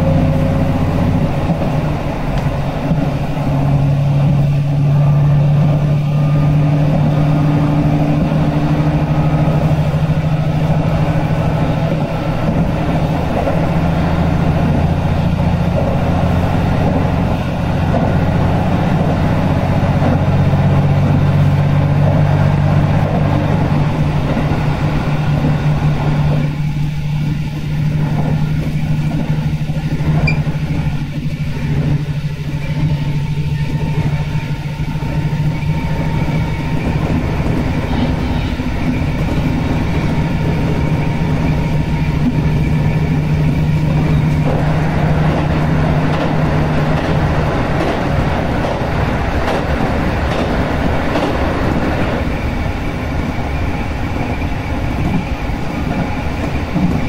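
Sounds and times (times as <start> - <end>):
train engine drone: 0.0 - 57.0
wheels on rails: 0.0 - 57.0.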